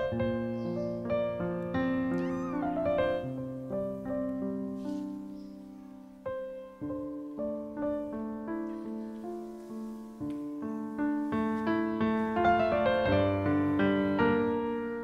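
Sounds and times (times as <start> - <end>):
gentle solo piano music: 0.0 - 15.0.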